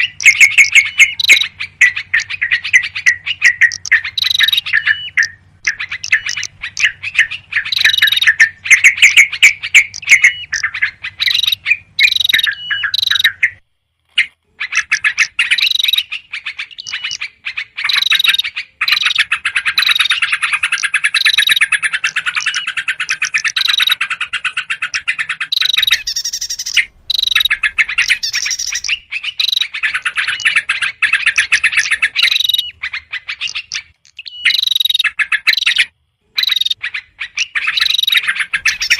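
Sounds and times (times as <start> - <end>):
bulbuls scolding calls: 0.0 - 13.6, 14.2 - 38.9
small songbirds chattering: 0.0 - 13.6, 14.2 - 38.9.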